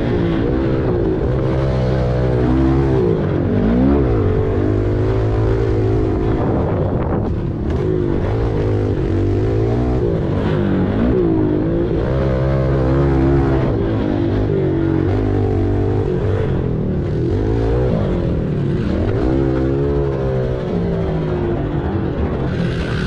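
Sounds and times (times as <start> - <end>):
pit bike engine revving: 0.0 - 23.0.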